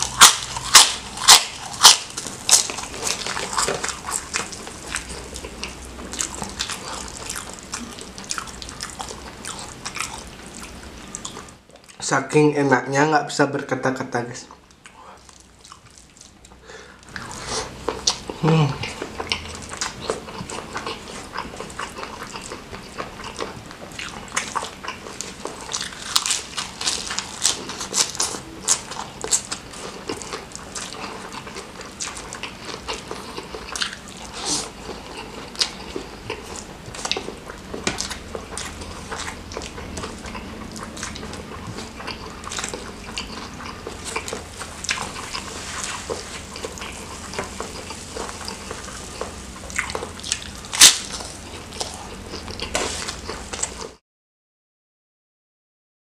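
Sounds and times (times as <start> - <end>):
wet chewing and lip smacking: 0.0 - 12.1, 14.6 - 54.0.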